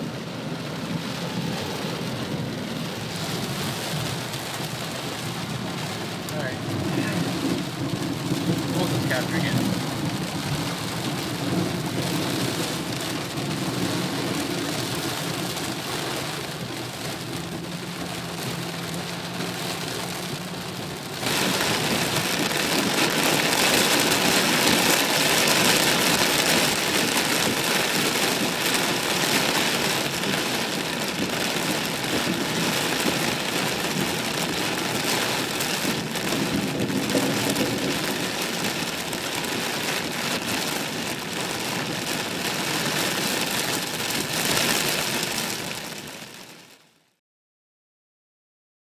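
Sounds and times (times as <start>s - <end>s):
heavy rain: 0.0s - 47.2s.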